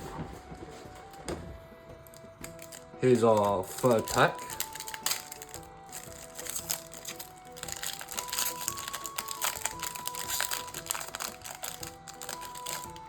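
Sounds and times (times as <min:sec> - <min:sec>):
background music simple melody: 0:00.0 - 0:13.0
foil wrapper crinkling: 0:02.0 - 0:13.0.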